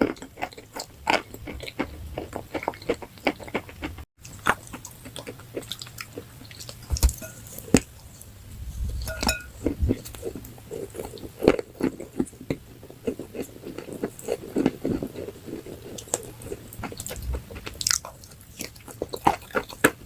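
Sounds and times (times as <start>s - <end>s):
chewing crunchy food: 0.0s - 20.0s.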